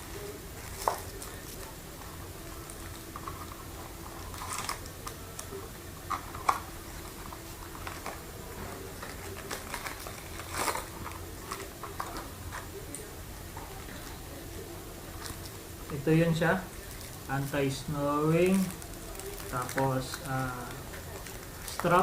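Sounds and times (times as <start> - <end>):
packaging clicks and crinkles: 0.1 - 14.2, 15.1 - 16.0, 16.7 - 22.0.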